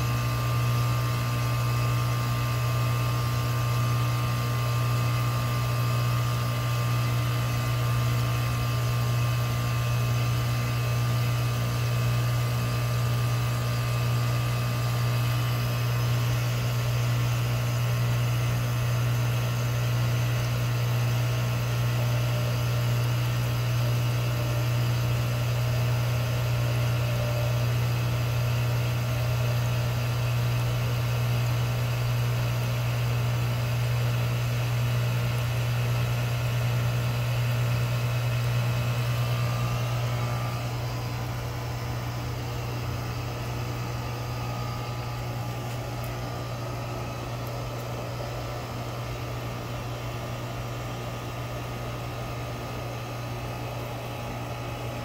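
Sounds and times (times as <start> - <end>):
heat pump humming: 0.0 - 55.0.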